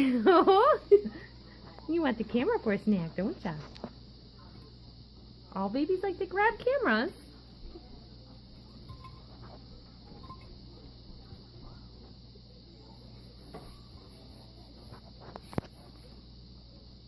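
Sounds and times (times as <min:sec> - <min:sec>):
faint flickering high hiss: 0:00.0 - 0:17.0.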